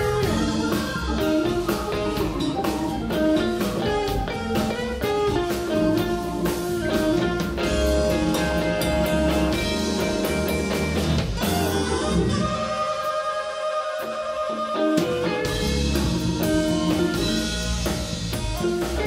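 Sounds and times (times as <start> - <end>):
electric bass: 0.0 - 12.9, 15.0 - 19.0
drum kit: 0.0 - 19.0
electric guitar: 0.0 - 19.0
keyboard: 0.0 - 19.0.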